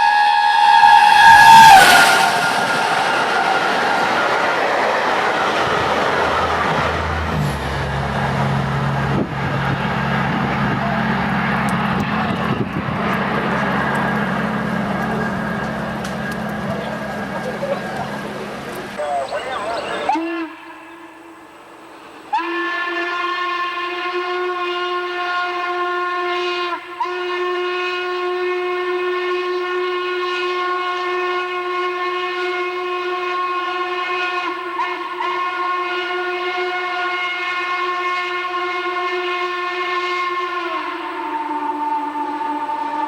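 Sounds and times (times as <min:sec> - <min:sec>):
steam locomotive whistle: 0:00.0 - 0:43.0.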